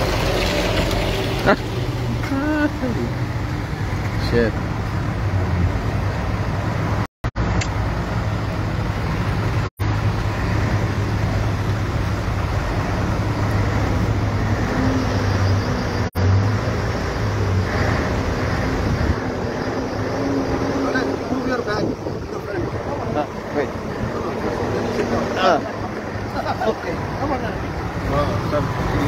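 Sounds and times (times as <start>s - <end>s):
engine rumble: 0.0s - 29.0s.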